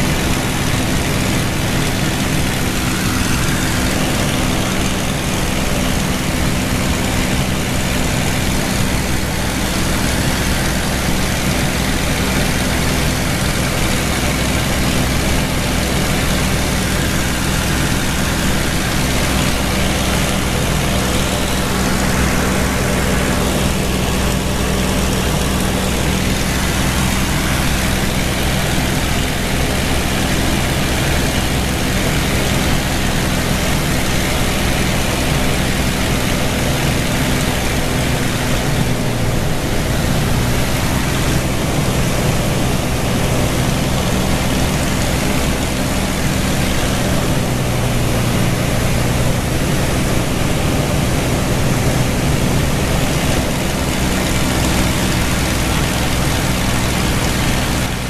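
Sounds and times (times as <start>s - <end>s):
aircraft piston engine cruising: 0.0s - 58.0s
wind over canopy: 0.0s - 58.0s.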